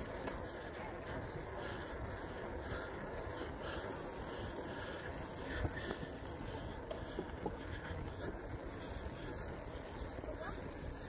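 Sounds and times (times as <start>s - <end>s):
bicycle tyre noise: 0.0s - 11.0s
bike clicks and rattles: 0.0s - 11.0s.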